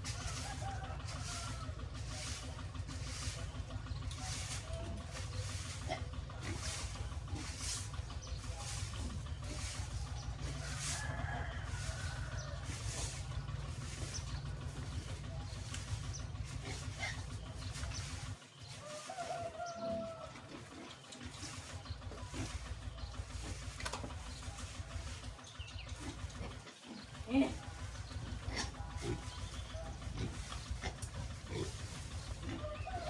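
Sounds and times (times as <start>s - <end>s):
steady low rumble: 0.0s - 18.4s, 21.3s - 33.0s.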